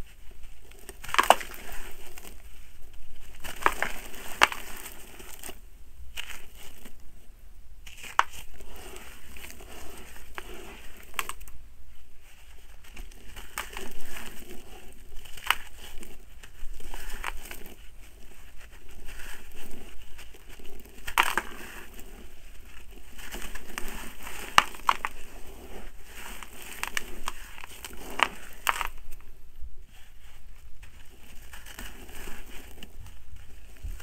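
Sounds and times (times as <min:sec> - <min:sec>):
hands crunching gritty soil: 0:00.0 - 0:07.0, 0:07.8 - 0:11.5, 0:12.2 - 0:29.3, 0:29.9 - 0:34.0.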